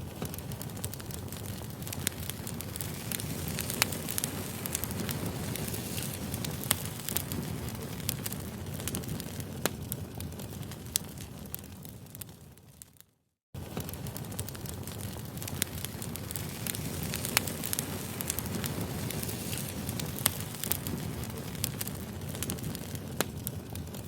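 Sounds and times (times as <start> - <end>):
campfire flames rumbling: 0.0 - 12.8, 13.6 - 24.0
wood crackling: 0.0 - 13.0, 13.6 - 24.0.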